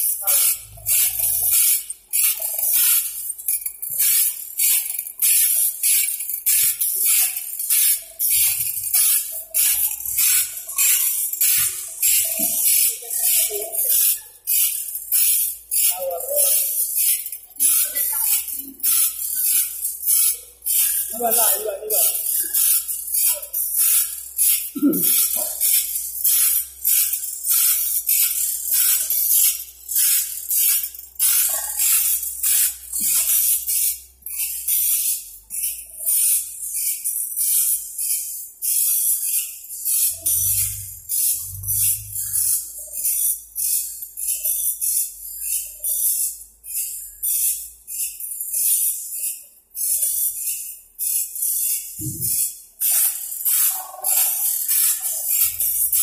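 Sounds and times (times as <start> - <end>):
grinding wheel scraping saw teeth: 0.0 - 56.0.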